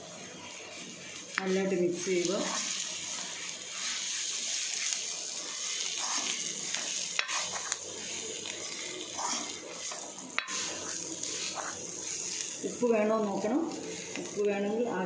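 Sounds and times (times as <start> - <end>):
meat and onions sizzling in pan: 0.0 - 15.0
spoon stirring and scraping pan: 0.2 - 14.4.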